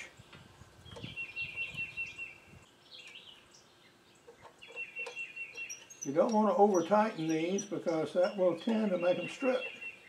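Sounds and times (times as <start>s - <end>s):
songbird trilling: 0.0s - 10.0s.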